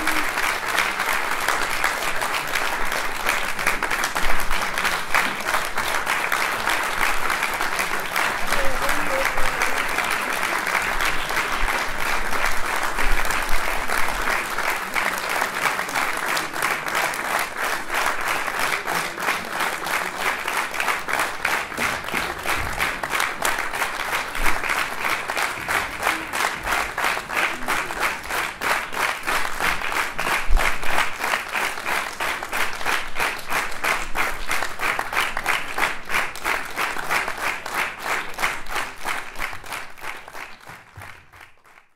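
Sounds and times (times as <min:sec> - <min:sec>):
audience applauding: 0:00.0 - 0:41.9.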